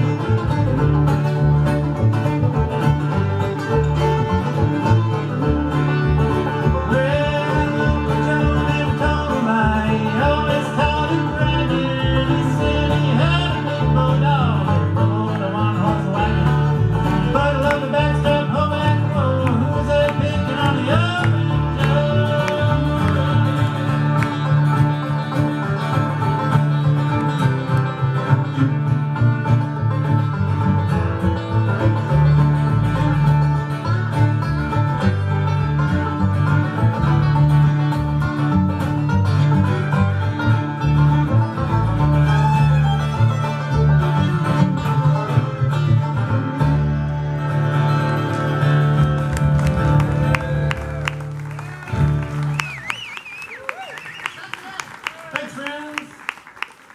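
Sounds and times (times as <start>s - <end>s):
bluegrass string band playing: 0.0s - 55.7s.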